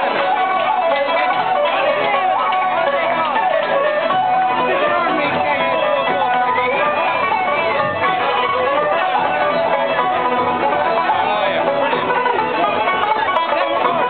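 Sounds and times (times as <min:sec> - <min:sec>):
live band with guitar: 0:00.0 - 0:14.0.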